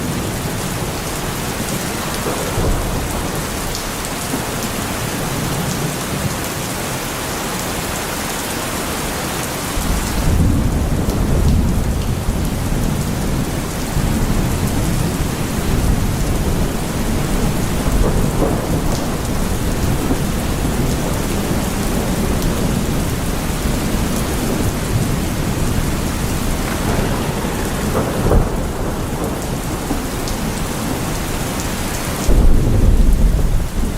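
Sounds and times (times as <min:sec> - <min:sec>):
thunder clap: 0:00.0 - 0:06.3, 0:09.8 - 0:33.9
rolling thunder: 0:00.0 - 0:06.4, 0:09.8 - 0:33.9
heavy rain: 0:00.0 - 0:33.9.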